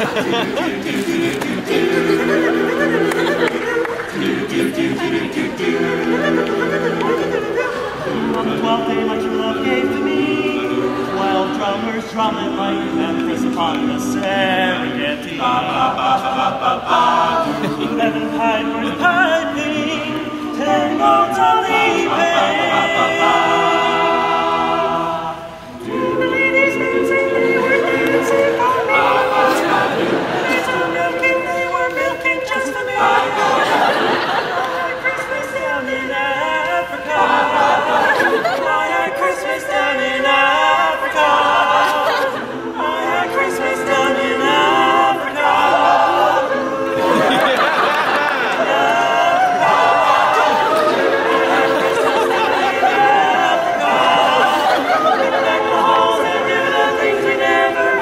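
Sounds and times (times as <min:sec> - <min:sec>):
male group singing in harmony: 0:00.0 - 0:58.0.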